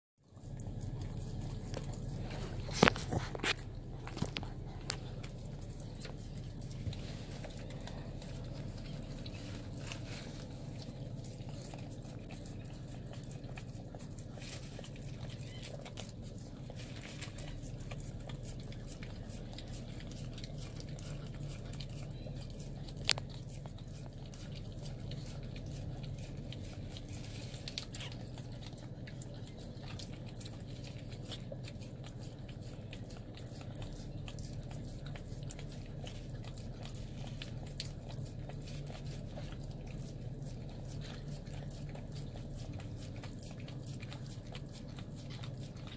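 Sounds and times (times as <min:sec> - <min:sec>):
low hum: 0:00.2 - 0:45.9
dog licking and smacking: 0:00.3 - 0:45.9.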